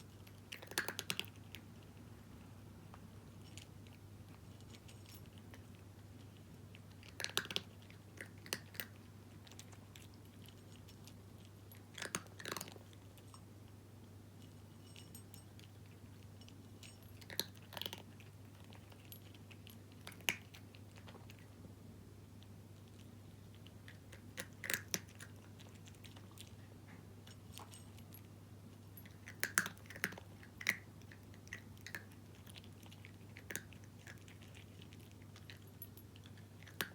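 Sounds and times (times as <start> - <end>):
cat crunching dry kibble: 0.0 - 2.4, 3.3 - 21.6, 22.4 - 36.9.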